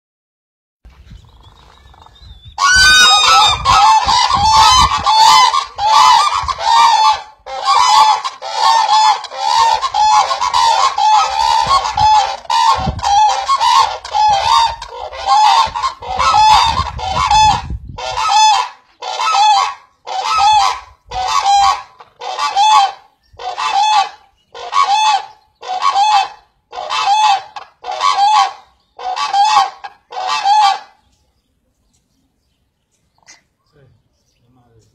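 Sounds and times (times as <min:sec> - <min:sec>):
cranes honking calls: 0:02.6 - 0:30.8.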